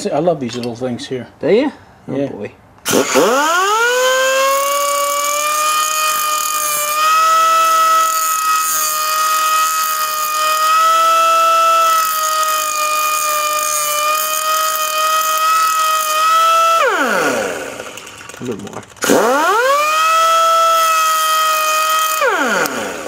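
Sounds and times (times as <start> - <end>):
cut-off disc grinding metal: 2.9 - 23.0.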